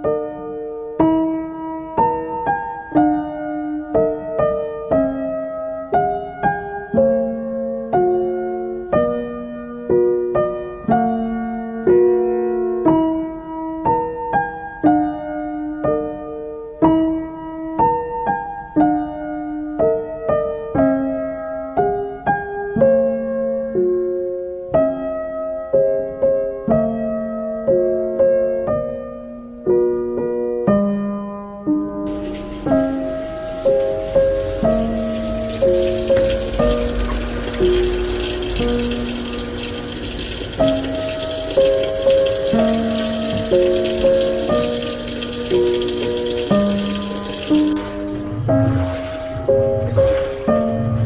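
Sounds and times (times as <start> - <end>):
gentle piano melody: 0.0 - 51.0.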